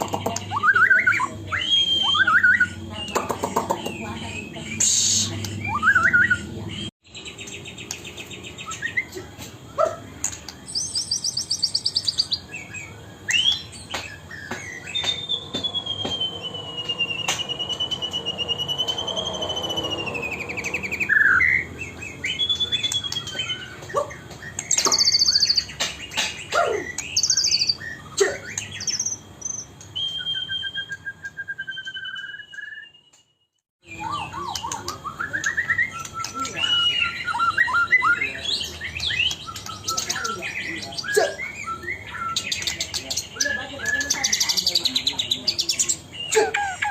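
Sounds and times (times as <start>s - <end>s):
bird singing whistles and trills: 0.0s - 46.9s.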